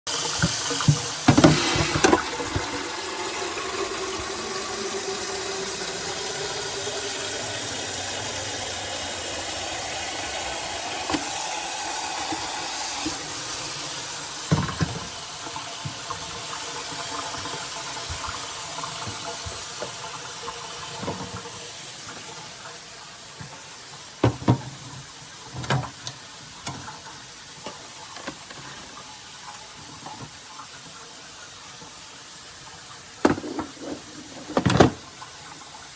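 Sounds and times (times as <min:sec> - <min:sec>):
coffee maker pouring into cup: 0:00.1 - 0:30.9, 0:32.9 - 0:35.9.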